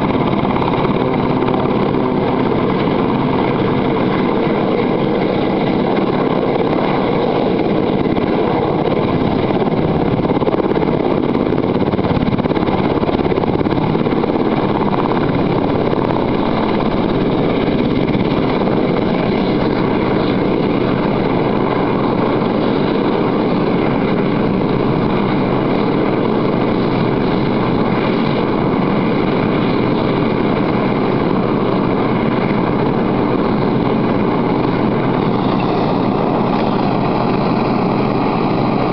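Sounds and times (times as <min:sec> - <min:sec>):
helicopter rotor noise: 0:00.0 - 0:38.9
helicopter turbine whine: 0:00.0 - 0:38.9.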